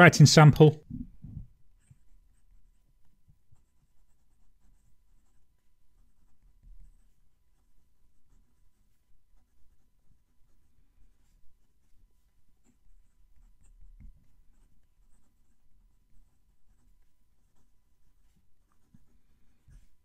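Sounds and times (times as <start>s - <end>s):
fountain pen scratching on paper: 1.5s - 20.0s.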